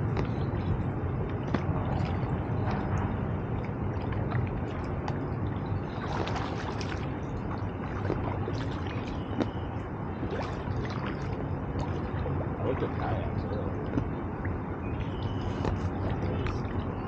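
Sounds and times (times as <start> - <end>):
paddles splashing in water: 0.0 - 17.0
steady low rumble: 0.0 - 17.0.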